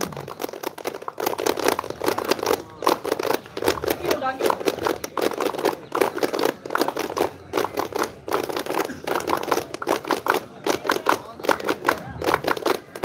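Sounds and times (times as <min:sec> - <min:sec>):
hand clapping: 0:00.0 - 0:13.0.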